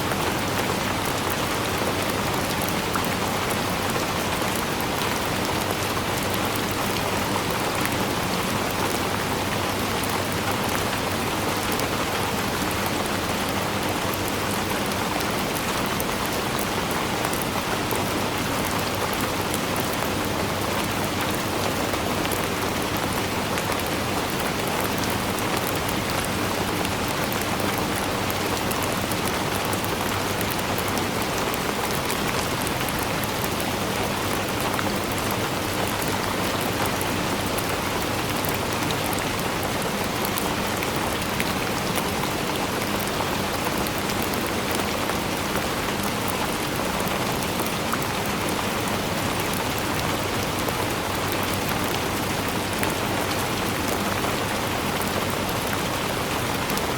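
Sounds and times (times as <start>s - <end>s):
rain pattering on surfaces: 0.0s - 56.9s.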